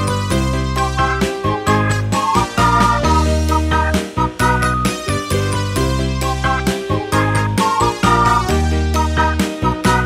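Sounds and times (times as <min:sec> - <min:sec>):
upbeat children's music: 0:00.0 - 0:10.0.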